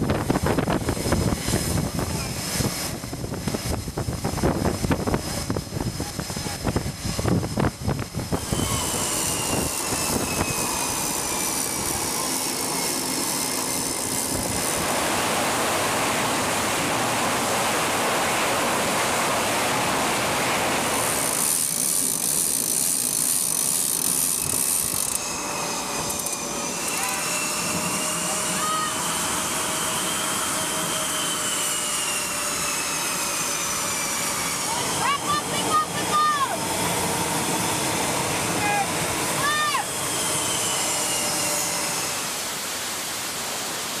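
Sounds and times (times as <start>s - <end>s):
rushing noise: 0.0s - 22.1s, 25.1s - 44.0s
jet turbine whine: 0.0s - 44.0s.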